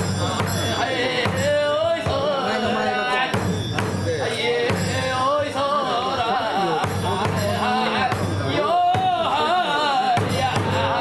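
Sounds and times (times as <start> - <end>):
taiko drum beating: 0.0 - 6.1, 6.8 - 11.0
small metal cymbals ringing: 0.0 - 11.0
sung chant: 0.0 - 11.0.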